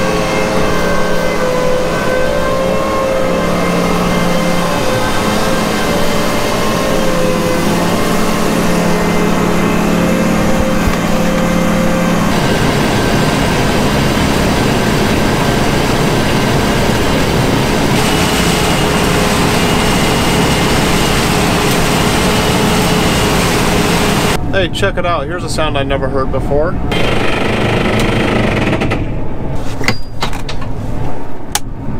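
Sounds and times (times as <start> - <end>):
high machine whine: 0.0 - 29.5
combine harvester drone: 0.0 - 29.6.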